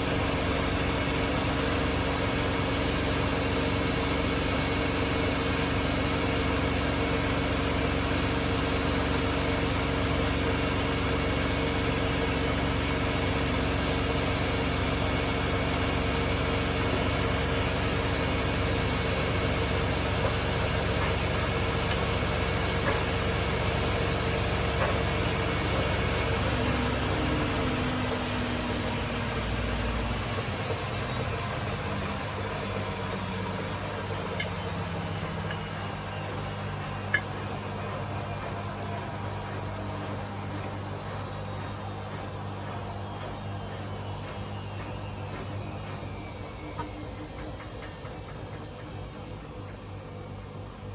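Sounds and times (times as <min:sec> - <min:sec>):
washing machine spinning: 0:00.0 - 0:50.9.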